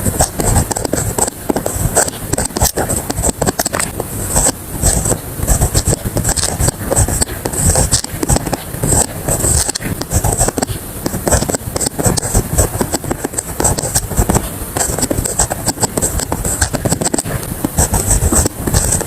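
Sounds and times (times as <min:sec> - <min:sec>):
pen scratching on paper: 0:00.0 - 0:19.0.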